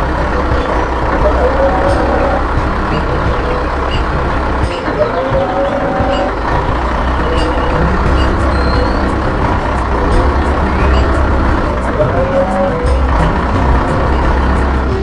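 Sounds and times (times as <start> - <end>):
construction machinery engine rumble: 0.0 - 15.0
wavering whine: 0.0 - 15.0.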